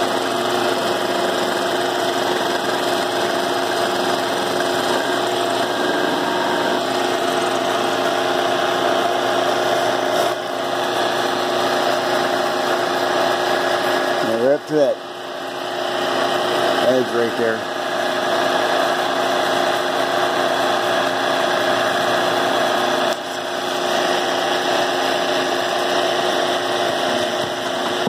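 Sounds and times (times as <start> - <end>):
milling machine whine: 0.0 - 28.0.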